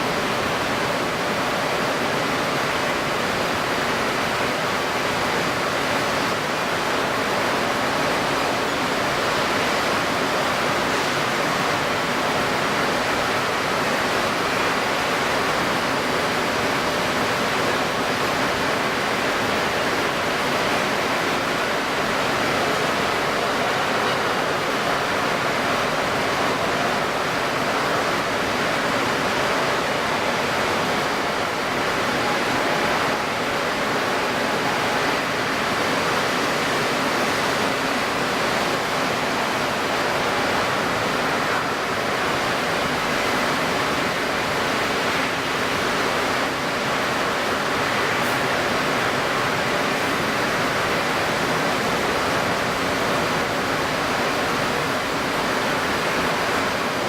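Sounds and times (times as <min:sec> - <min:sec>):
wind-stirred water: 0:00.0 - 0:57.0.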